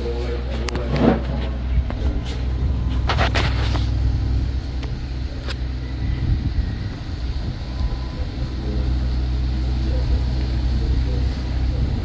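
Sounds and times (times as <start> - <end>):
turboprop aircraft passing overhead: 0.0 - 12.0.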